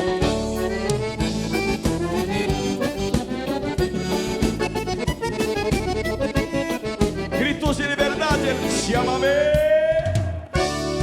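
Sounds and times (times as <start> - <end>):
accordion melody: 0.0 - 9.8, 10.5 - 11.0
band keeping a steady beat: 0.0 - 11.0.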